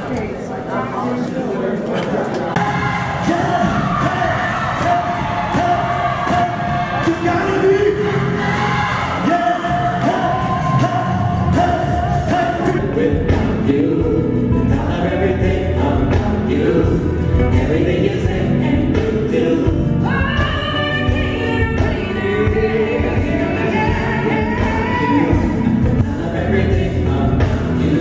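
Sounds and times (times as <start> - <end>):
gospel choir singing: 2.5 - 28.0
band playing: 2.6 - 28.0
lead vocalist singing: 2.6 - 28.0.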